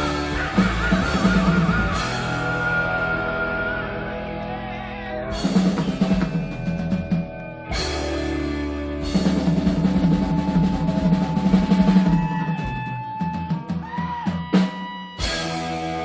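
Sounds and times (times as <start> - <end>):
drum kit fill: 0.0 - 4.4, 5.3 - 16.0
sustained guitar and bass: 0.0 - 16.0.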